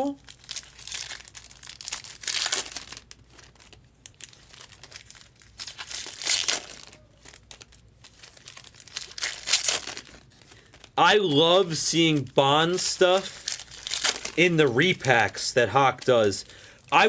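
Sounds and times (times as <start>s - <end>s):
foil wrappers crinkling and tearing: 0.0s - 17.0s.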